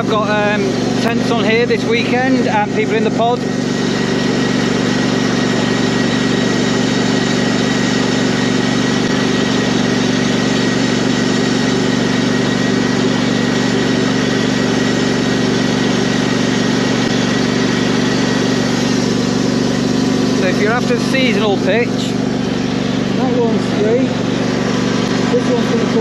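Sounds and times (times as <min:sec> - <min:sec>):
lawn tractor engine running: 0:00.0 - 0:26.0.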